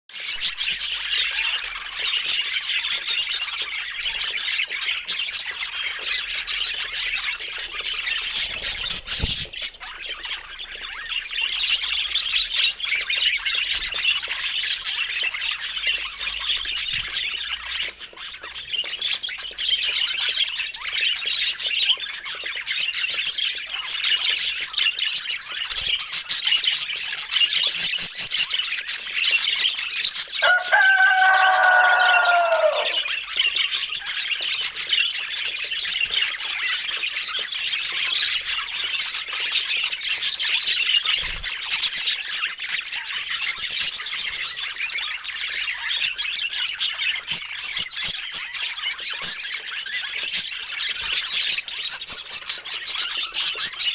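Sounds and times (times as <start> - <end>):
budgerigars chattering and squawking: 0.2 - 53.9.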